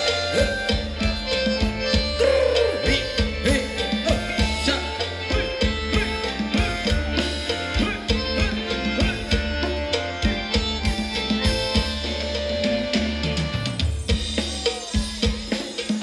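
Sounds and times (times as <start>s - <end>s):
live band dance music: 0.0s - 16.0s
steady drum beat: 0.0s - 16.0s.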